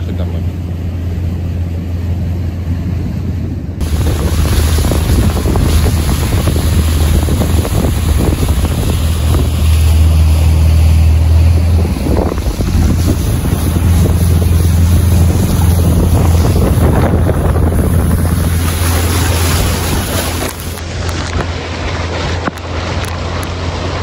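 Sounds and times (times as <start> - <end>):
motorboat engine running: 0.0 - 24.0
water rushing past hull: 0.0 - 24.0
wind buffeting microphone: 2.4 - 24.0.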